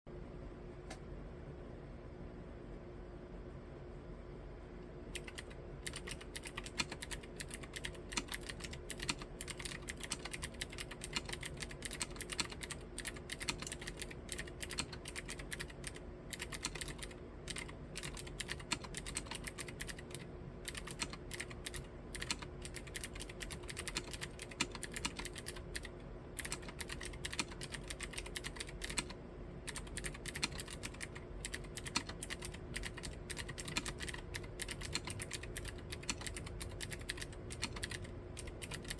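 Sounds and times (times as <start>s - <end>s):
clicky mechanical keyboard typing: 5.1s - 38.9s.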